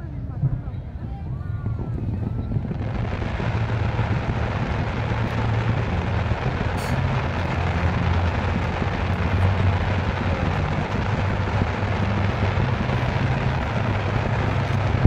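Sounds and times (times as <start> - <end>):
fireworks rushing rumble and hiss: 0.2 - 15.0.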